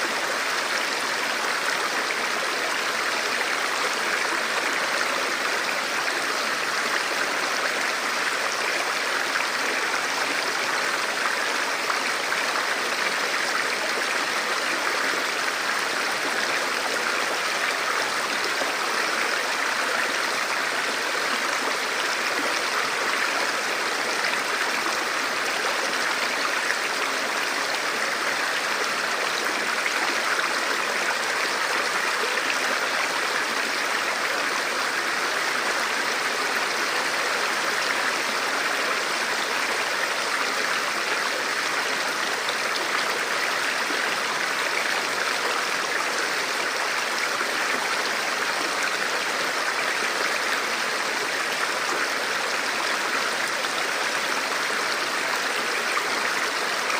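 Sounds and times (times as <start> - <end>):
river flowing over rocks: 0.0 - 56.9.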